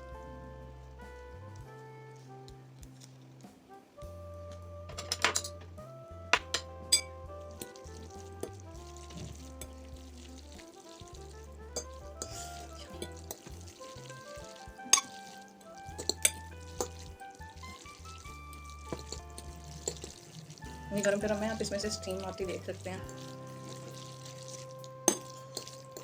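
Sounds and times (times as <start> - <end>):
background music: 0.0 - 26.0
noodles being stirred: 4.5 - 26.0.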